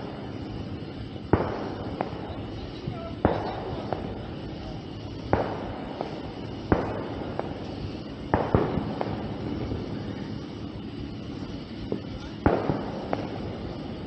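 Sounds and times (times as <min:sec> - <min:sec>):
fireworks banging: 0:00.0 - 0:14.0
fireworks crackling: 0:00.0 - 0:14.0.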